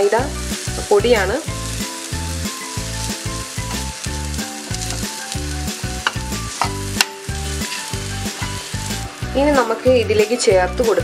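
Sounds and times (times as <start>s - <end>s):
background music: 0.0s - 11.0s
food sizzling in a frying pan: 0.0s - 11.0s.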